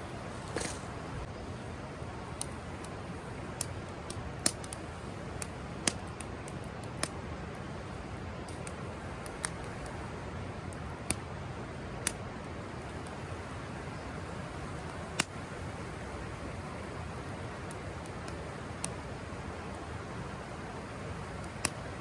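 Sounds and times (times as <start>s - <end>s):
campfire crackling: 0.0s - 22.0s
sharp pops of burning wood: 0.0s - 22.0s.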